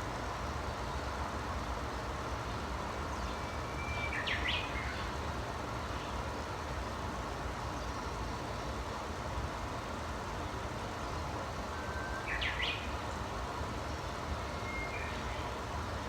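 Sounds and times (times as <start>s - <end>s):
rumbling background hiss: 0.0s - 16.0s.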